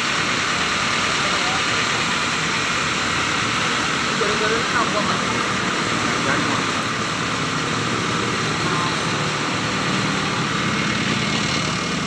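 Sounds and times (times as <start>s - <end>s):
fire truck engine running: 0.0s - 12.0s.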